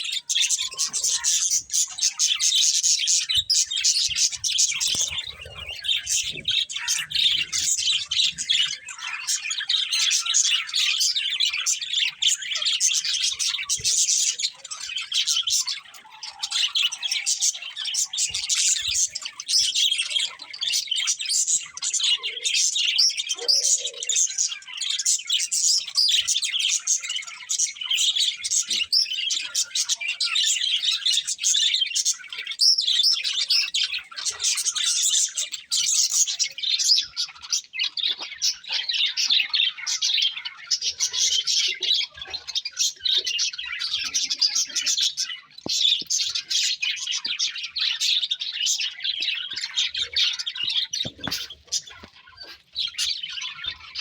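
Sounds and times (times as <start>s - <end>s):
budgies chirping: 0.0s - 54.0s.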